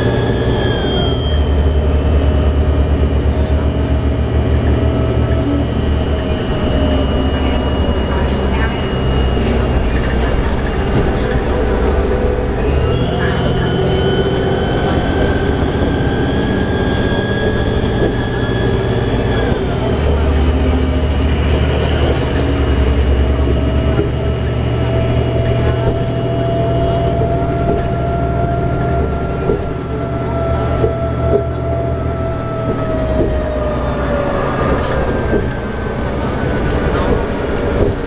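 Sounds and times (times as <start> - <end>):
diesel engine drone: 0.0 - 38.0
drivetrain whine: 0.0 - 38.0
road and tyre noise: 0.0 - 38.0.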